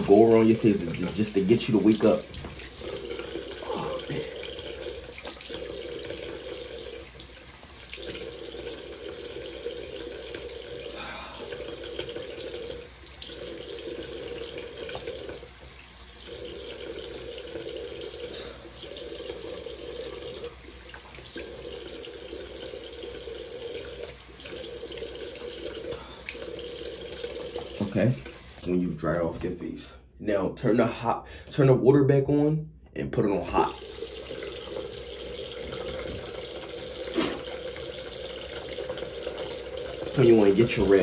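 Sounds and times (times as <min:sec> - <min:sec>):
water running from a tap: 0:00.0 - 0:29.2, 0:33.4 - 0:41.0.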